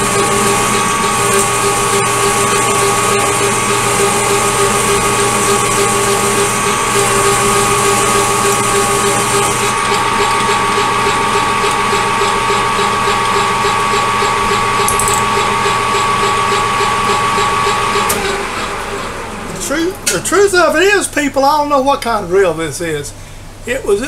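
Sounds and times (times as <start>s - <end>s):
lathe mechanical whine: 0.0s - 20.8s.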